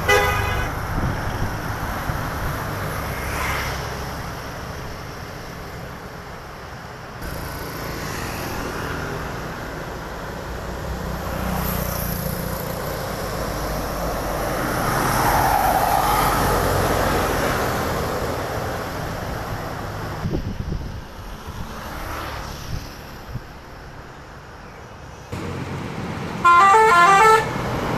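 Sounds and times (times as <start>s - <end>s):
vehicle passing on highway: 0.0s - 24.6s, 25.2s - 27.9s.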